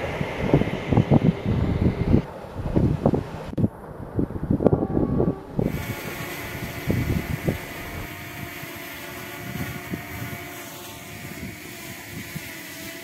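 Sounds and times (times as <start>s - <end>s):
steady mechanical hum: 0.0s - 13.0s
wind buffeting microphone: 0.0s - 13.0s.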